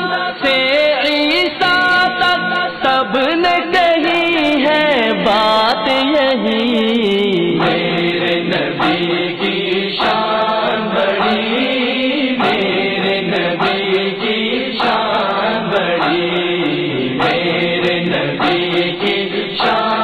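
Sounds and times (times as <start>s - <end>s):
chorus of voices chanting: 0.0s - 6.2s, 7.4s - 20.0s.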